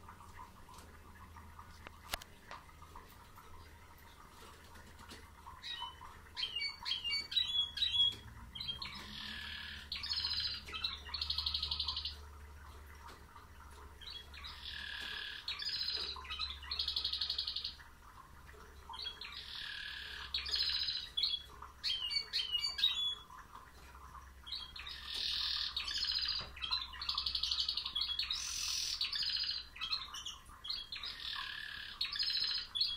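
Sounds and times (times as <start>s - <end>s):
canary singing chirps and trills: 2.9s - 32.9s.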